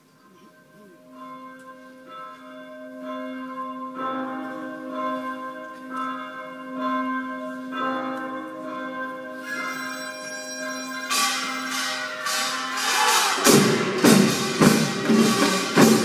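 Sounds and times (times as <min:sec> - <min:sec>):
church bell tolling: 0:00.0 - 0:16.0.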